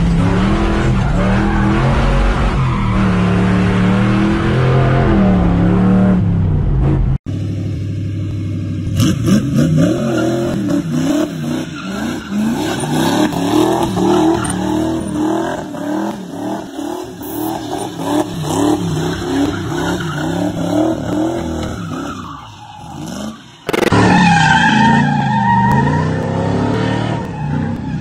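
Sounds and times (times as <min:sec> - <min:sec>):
tyres squealing and skidding: 0:00.0 - 0:06.1, 0:09.6 - 0:28.0
truck engine revving: 0:00.0 - 0:07.2, 0:08.8 - 0:28.0.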